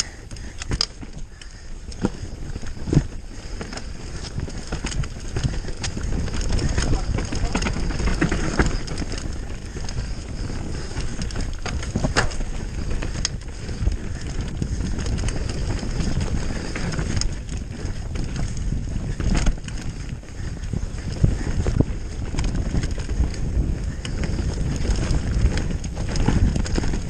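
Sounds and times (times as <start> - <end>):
bike clacking over bumps: 0.0 - 27.0
tyres rumbling on dirt: 0.0 - 27.0
wind buffeting microphone: 0.0 - 27.0.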